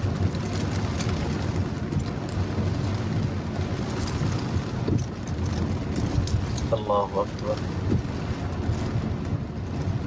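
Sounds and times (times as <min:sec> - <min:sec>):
car driving on wet road: 0:00.0 - 0:10.0
heavy rain: 0:00.0 - 0:10.0.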